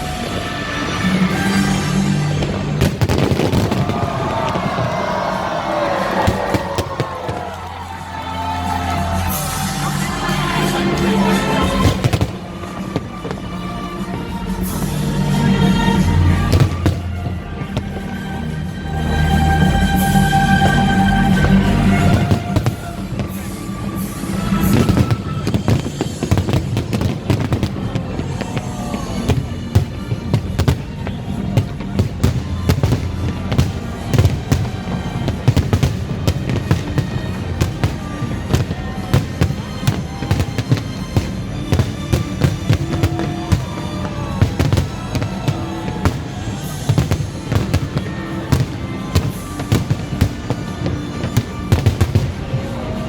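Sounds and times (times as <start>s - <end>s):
fireworks bangs and crackles: 0.0s - 53.0s
music playing: 0.0s - 53.0s.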